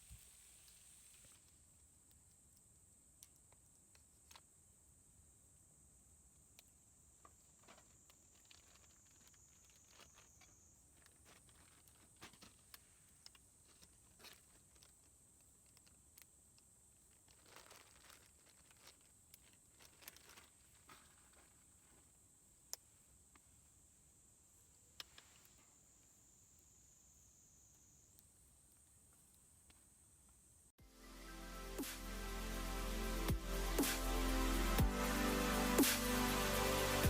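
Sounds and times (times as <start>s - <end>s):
faint high hiss: 0.0s - 37.0s.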